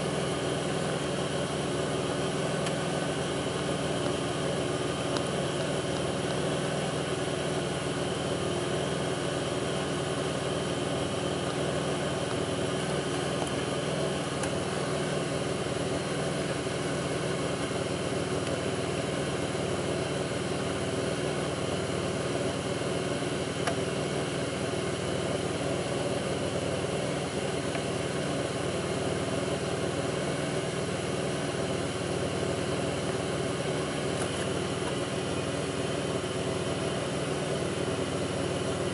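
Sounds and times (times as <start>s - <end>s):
faint engine thumping: 0.0s - 20.6s, 21.4s - 38.9s
car engine idling roughly: 0.0s - 38.9s.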